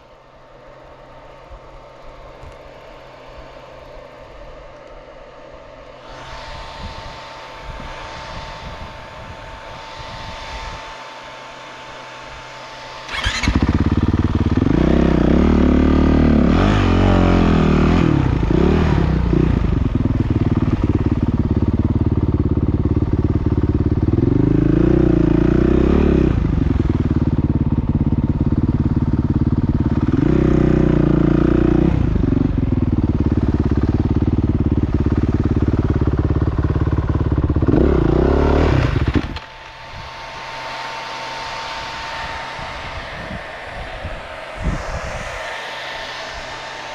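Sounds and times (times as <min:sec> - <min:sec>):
motorcycle engines revving: 0:05.9 - 0:46.9.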